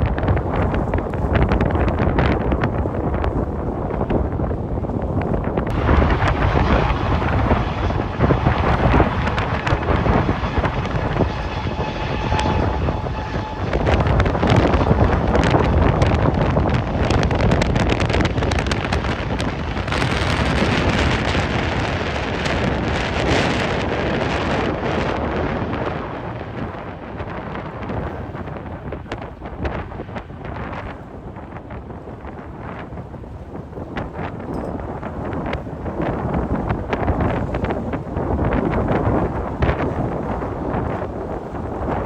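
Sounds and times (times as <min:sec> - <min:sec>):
wind gusting on microphone: 0:00.0 - 0:42.0.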